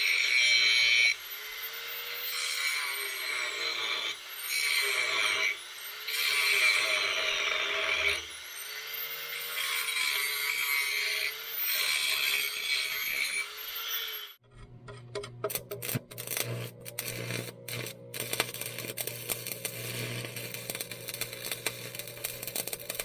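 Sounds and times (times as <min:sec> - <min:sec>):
grinder grinding steel: 0:00.0 - 0:23.0.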